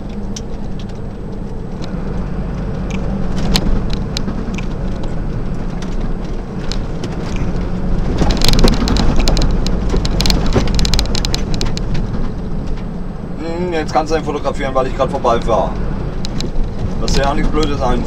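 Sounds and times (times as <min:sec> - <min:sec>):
cab rattles and clicks: 0:00.0 - 0:13.1, 0:13.8 - 0:18.0
road noise: 0:00.0 - 0:18.0
truck engine drone: 0:00.0 - 0:18.0.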